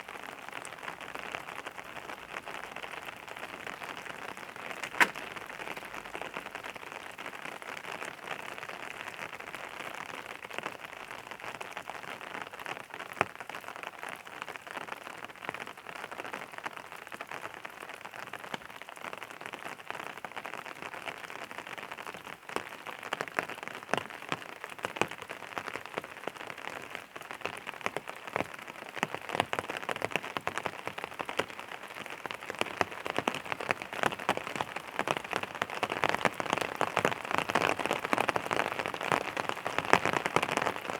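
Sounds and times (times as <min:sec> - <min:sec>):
rain on a hard surface: 0:00.0 - 0:40.9.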